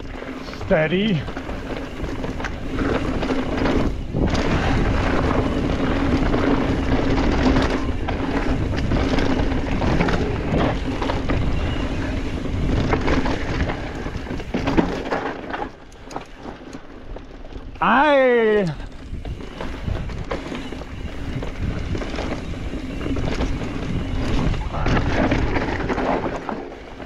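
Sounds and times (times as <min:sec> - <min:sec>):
bike rattling over rocks: 0:00.0 - 0:27.0
wind noise on microphone: 0:00.0 - 0:27.0.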